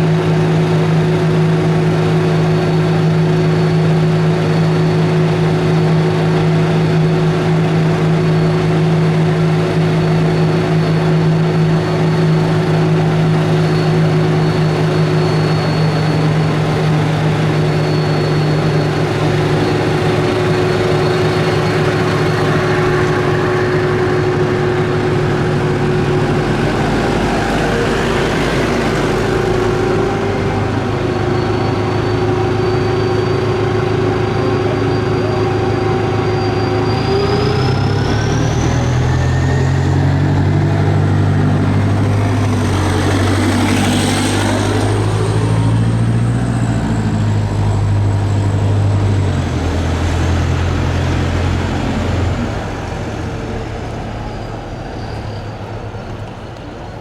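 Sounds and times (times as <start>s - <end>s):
diesel engine idling: 0.0s - 57.0s
deep rumble: 2.8s - 57.0s.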